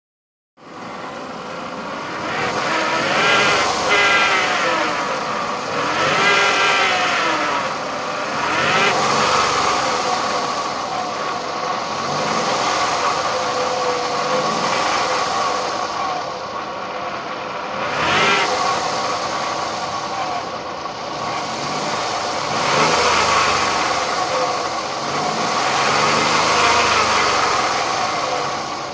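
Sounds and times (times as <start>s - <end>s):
car engine running: 0.6s - 28.9s.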